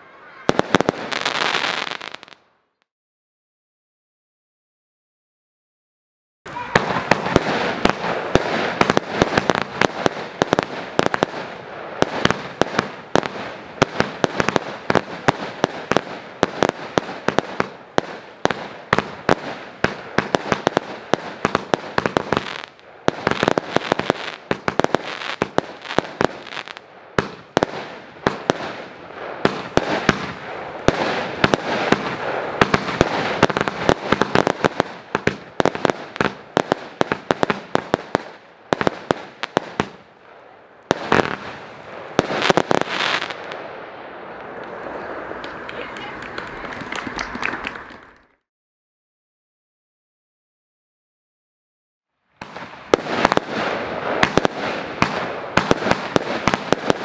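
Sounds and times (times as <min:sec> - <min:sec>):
fireworks popping and crackling: 0:00.3 - 0:02.5, 0:06.5 - 0:48.4, 0:52.4 - 0:57.0.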